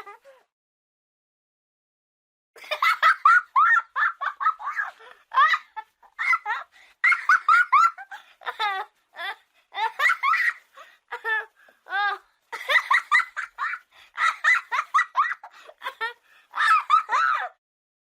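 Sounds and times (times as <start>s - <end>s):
child giggling: 0.0s - 0.4s, 2.6s - 17.6s.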